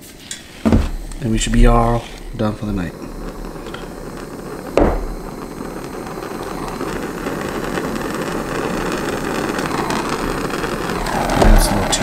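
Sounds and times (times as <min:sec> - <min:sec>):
torch flame hissing: 0:00.0 - 0:12.0
torch ignition pop: 0:00.3 - 0:12.0.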